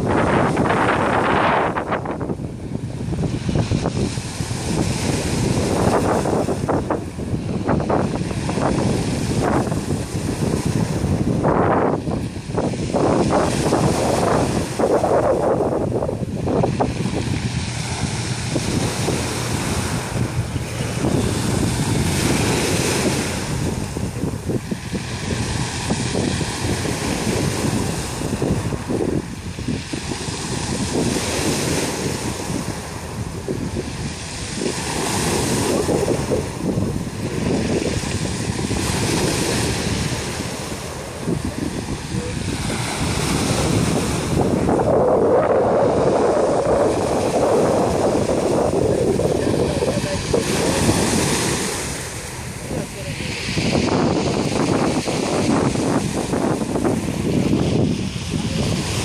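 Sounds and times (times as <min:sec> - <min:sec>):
waves washing on pebble shore: 0:00.0 - 0:59.0
wind buffeting microphone: 0:00.0 - 0:59.0.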